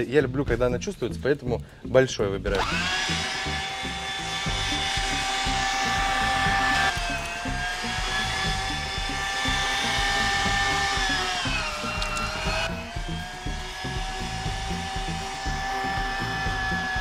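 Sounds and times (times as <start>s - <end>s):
background music with a beat: 0.0s - 1.5s, 2.5s - 17.0s
electric meat grinder whining: 2.5s - 17.0s.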